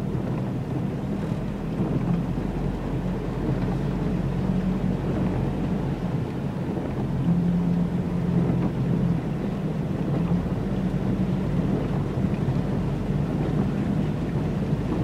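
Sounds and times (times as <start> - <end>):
low engine drone: 0.0 - 15.0
rushing wash of water: 0.0 - 15.0.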